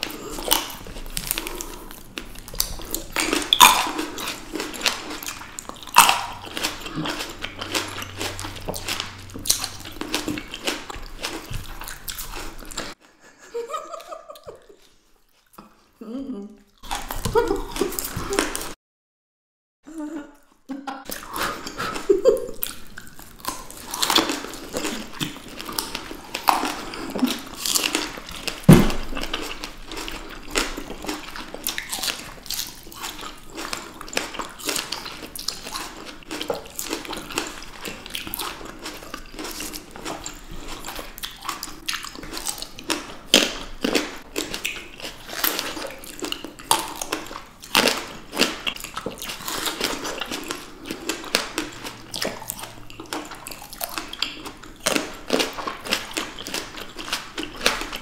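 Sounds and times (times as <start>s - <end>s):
biting and wet chewing of fruit: 0.0s - 13.0s, 14.0s - 16.0s, 16.6s - 18.8s, 20.4s - 58.0s.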